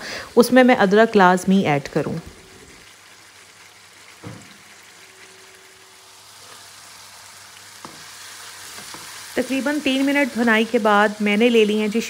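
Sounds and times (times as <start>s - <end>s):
onion frying in oil: 0.0s - 12.0s.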